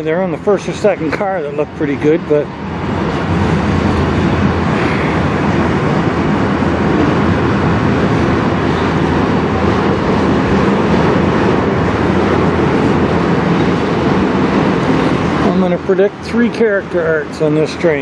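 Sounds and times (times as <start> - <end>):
steel train wheels on track: 0.6 - 18.0.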